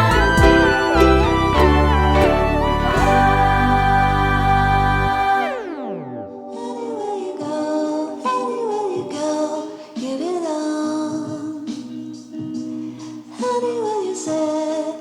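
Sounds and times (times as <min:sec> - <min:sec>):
light song with singing voice: 0:00.0 - 0:15.0.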